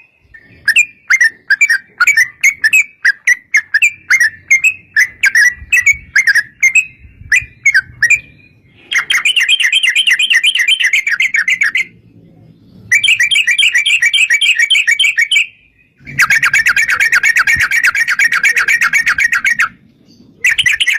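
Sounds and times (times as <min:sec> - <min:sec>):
bulbul singing: 0:00.0 - 0:20.9.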